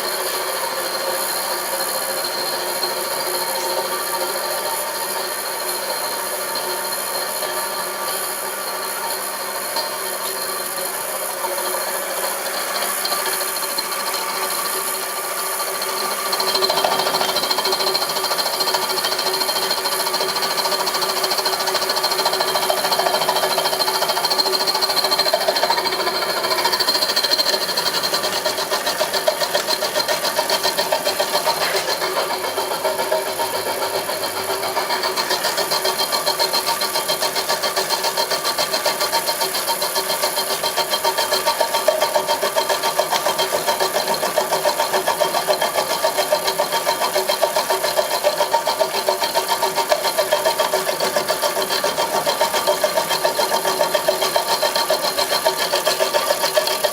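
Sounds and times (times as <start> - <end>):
milling machine whining: 0.0 - 56.9.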